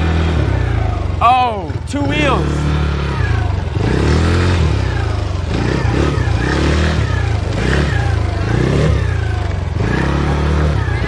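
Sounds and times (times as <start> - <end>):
quad bike engine revving: 0.0 - 11.0.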